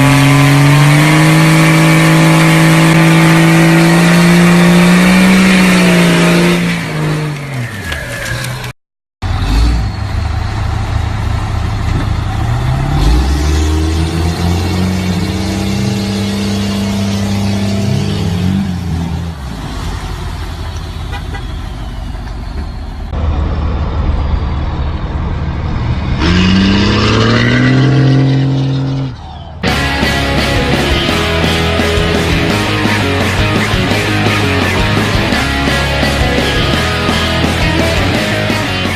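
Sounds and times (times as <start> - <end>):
diesel truck engines revving: 0.0 - 38.9.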